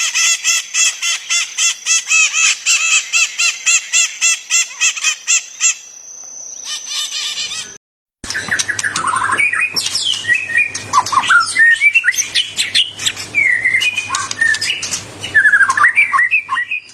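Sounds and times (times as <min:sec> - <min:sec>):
songbirds singing: 0:00.0 - 0:16.9.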